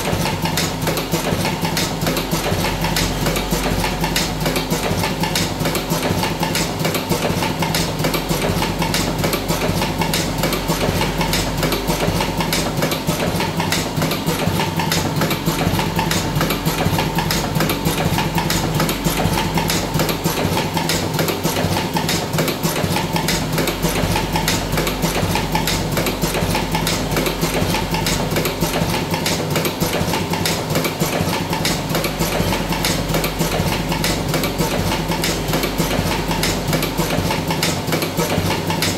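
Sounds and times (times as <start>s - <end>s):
machine motor hum: 0.0s - 38.9s
rapid mechanical clatter: 0.0s - 38.9s.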